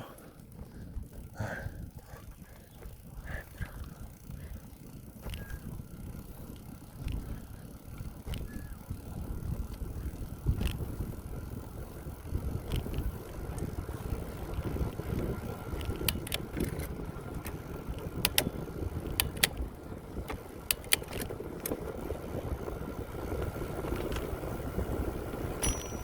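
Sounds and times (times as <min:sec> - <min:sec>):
bike clicks and rattles: 0:00.0 - 0:26.0
wind and tyres on road: 0:00.0 - 0:26.0.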